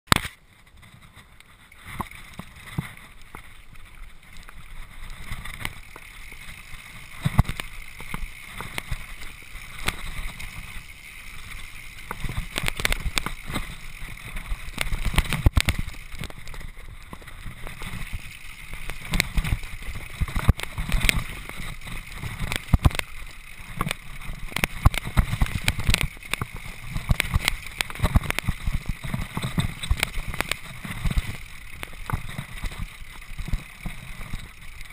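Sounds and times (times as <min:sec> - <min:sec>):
bike knocks and rattles: 0:00.1 - 0:34.9
tyres rumbling on rock and gravel: 0:00.6 - 0:34.9
wind noise on microphone: 0:06.4 - 0:34.9.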